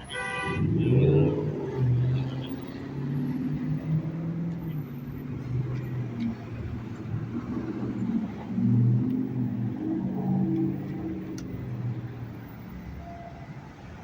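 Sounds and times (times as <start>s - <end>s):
vehicle engine pulling away: 0.5s - 12.8s.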